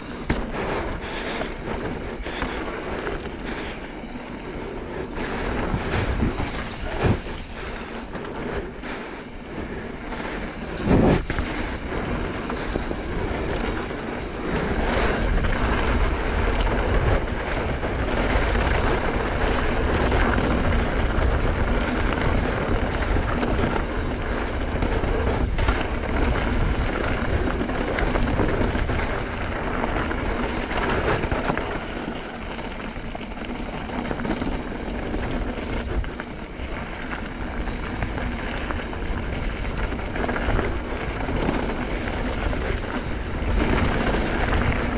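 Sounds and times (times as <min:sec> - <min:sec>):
bike rattling over rocks: 0:00.0 - 0:44.9
tyre noise on dirt: 0:00.0 - 0:44.9
wind buffeting microphone: 0:00.0 - 0:44.9.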